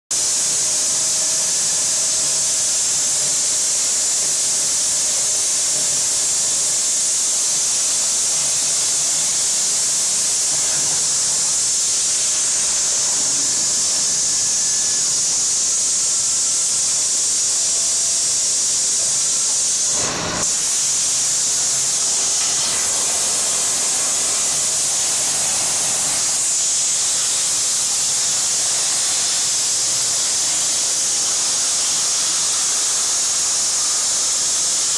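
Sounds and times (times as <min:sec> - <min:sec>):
plasma cutter hissing: 0:00.1 - 0:34.9.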